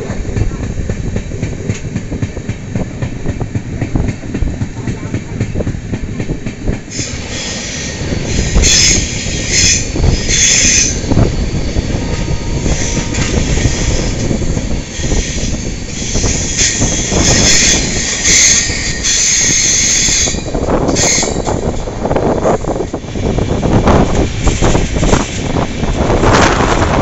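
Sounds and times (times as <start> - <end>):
train wheels rumbling on rails: 0.0 - 27.0
wind: 0.0 - 27.0.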